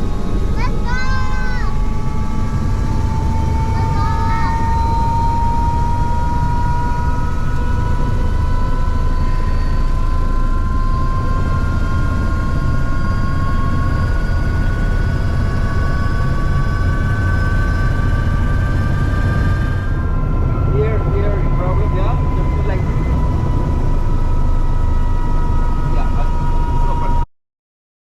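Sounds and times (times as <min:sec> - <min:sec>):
helicopter turbine and rotor: 0:00.0 - 0:27.3.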